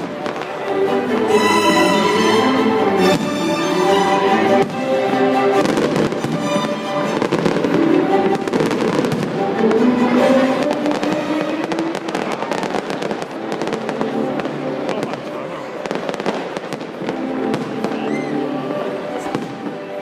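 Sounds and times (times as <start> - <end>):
fireworks bursting and crackling: 0.0 - 1.7, 2.9 - 20.0
music with long held notes: 0.0 - 20.0.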